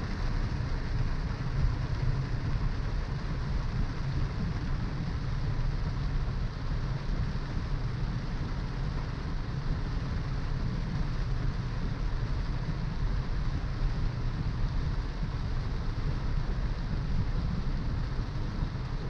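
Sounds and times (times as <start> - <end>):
wet road and rain hiss: 0.0 - 19.0.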